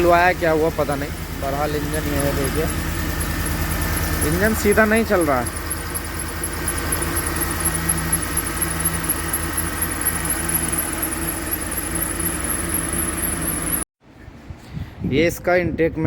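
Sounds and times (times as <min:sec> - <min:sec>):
engine idling roughly: 0:00.0 - 0:13.8
high-pitched whine: 0:00.0 - 0:13.8.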